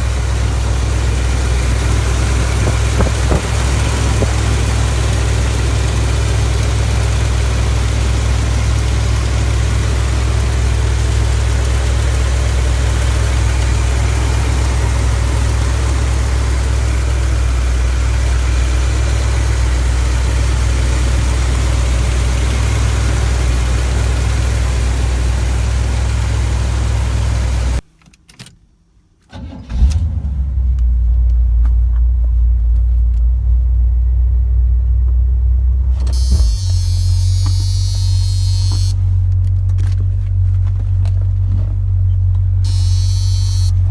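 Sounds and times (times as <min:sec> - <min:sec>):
car engine idling: 0:00.0 - 0:27.8, 0:30.4 - 0:43.9
car engine starting: 0:00.0 - 0:27.8, 0:29.2 - 0:43.9.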